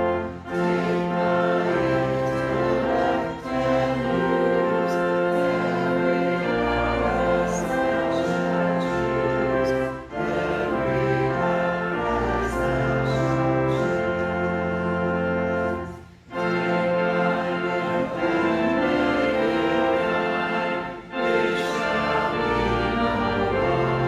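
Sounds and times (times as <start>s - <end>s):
choir and congregation singing hymn: 0.0s - 24.0s
instrumental accompaniment: 0.0s - 24.0s.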